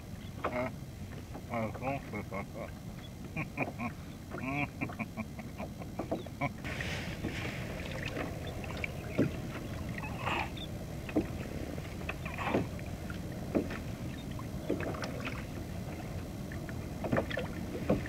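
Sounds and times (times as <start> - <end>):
water splashing beside kayak: 0.0 - 18.0
wind: 0.0 - 18.0.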